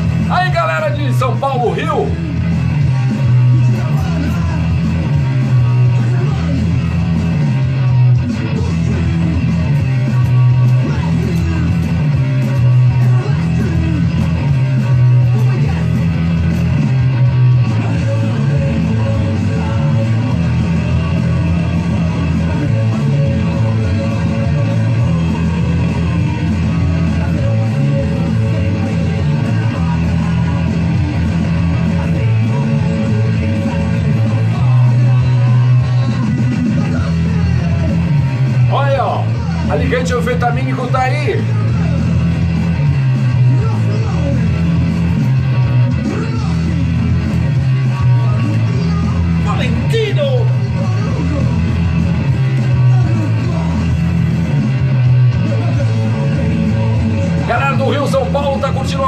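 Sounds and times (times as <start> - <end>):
person singing: 0.0 - 58.0
rock music with electric guitar: 0.0 - 59.0.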